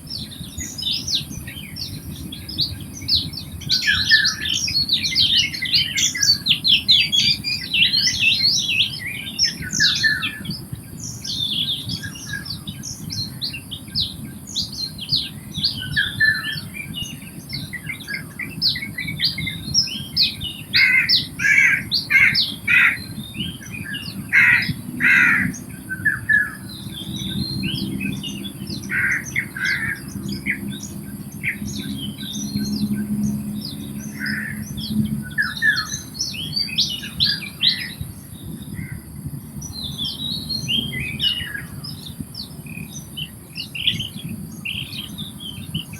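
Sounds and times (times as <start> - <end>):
birds chirping and calling: 0.0 - 45.9.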